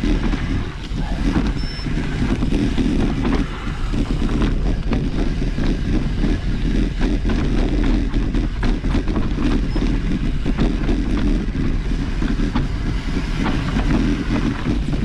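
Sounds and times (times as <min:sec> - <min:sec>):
bike clattering and rattling: 0:00.0 - 0:15.0
tyres rumbling on dirt: 0:00.0 - 0:15.0.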